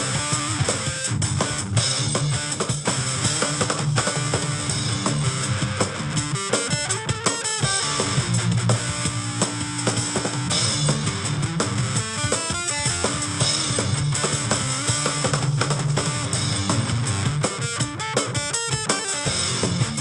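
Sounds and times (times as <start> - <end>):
drum kit: 0.0 - 20.0
electric guitar riffs: 0.0 - 20.0.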